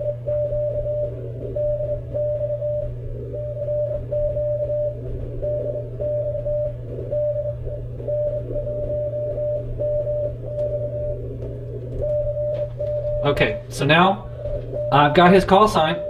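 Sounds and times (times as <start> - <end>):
low hum: 0.0 - 16.0
morse code tone: 0.0 - 16.0
receiver noise: 0.0 - 16.0.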